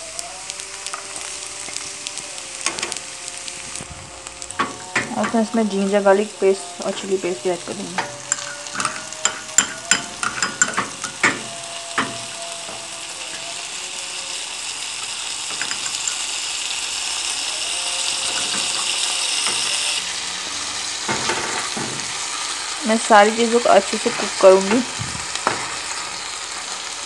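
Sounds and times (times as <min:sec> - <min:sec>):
onions sizzling in a pan: 0:00.0 - 0:27.0
steel spoon scraping a pan: 0:02.6 - 0:26.9.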